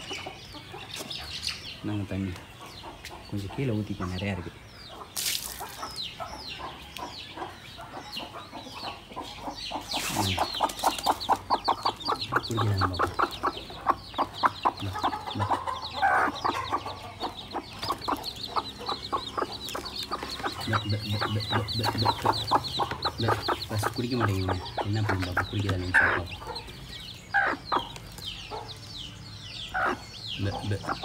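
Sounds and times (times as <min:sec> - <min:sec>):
chicks peeping: 0:00.0 - 0:31.0
hen clucking: 0:00.0 - 0:31.0.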